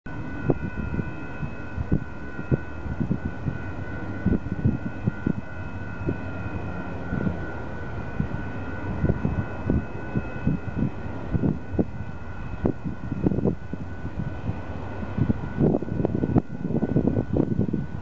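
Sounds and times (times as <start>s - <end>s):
high-pitched whine: 0.1s - 18.0s
wind buffeting microphone: 0.1s - 18.0s.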